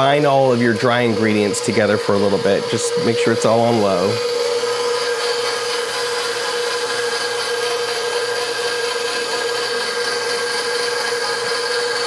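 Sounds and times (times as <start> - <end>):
stand mixer motor hum: 0.0 - 12.0.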